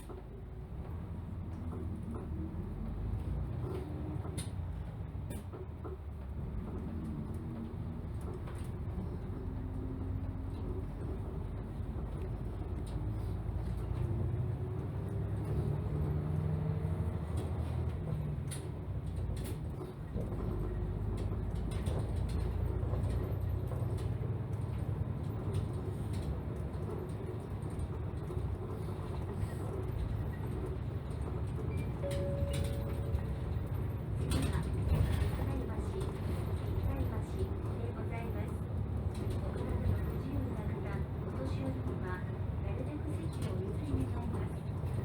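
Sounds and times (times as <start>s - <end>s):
body rattles and clicks: 0.0s - 45.0s
bus engine and road rumble: 0.0s - 45.0s.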